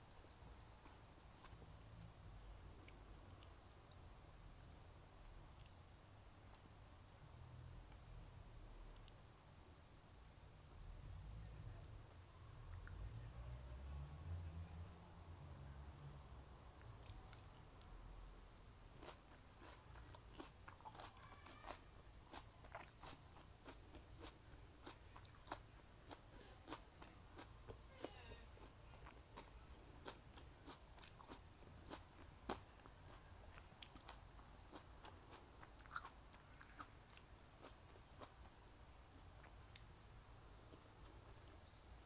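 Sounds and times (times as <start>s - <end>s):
faint chewing with soft crunches: 0.0s - 42.0s.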